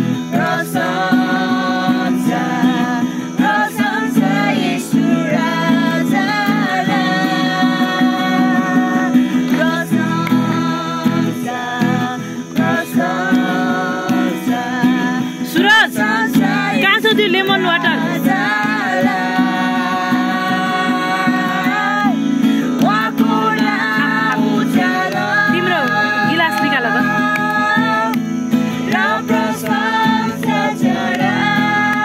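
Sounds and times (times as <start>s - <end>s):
acoustic guitar strumming: 0.0s - 32.0s
woman singing: 0.0s - 32.0s.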